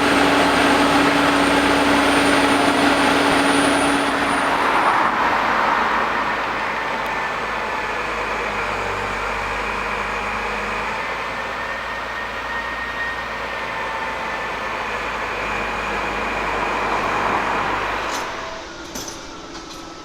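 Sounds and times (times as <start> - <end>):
drilling rig diesel engine: 0.0 - 20.0.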